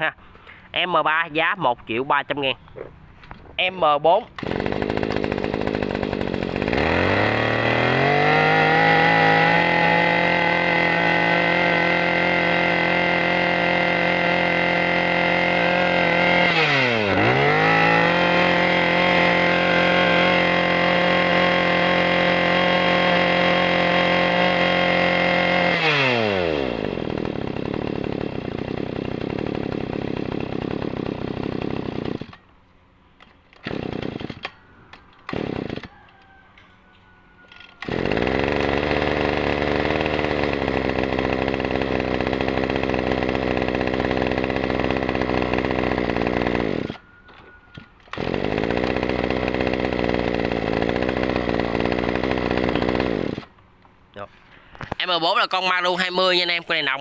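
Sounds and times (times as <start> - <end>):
brushcutter engine running: 4.2 - 32.5, 33.2 - 34.6, 35.2 - 36.4, 37.5 - 47.2, 47.8 - 53.6, 54.7 - 57.0.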